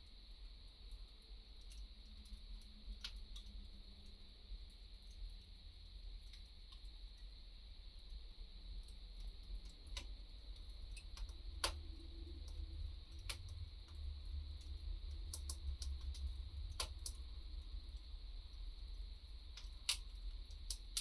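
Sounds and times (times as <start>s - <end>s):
low steady fire rumble: 0.0s - 21.0s
wood fire crackling: 0.0s - 21.0s.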